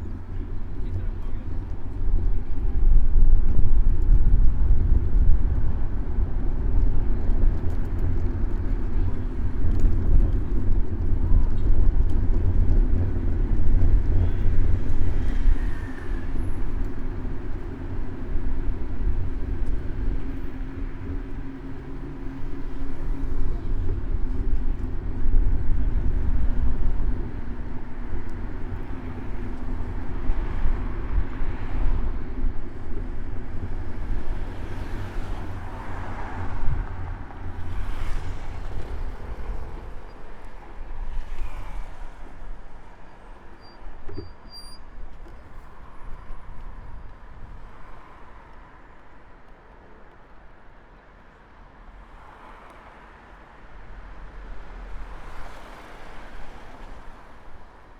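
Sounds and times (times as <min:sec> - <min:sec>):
cars passing: 0:00.0 - 0:44.0, 0:44.9 - 0:57.9
vehicle engine rumbling: 0:00.0 - 0:48.5.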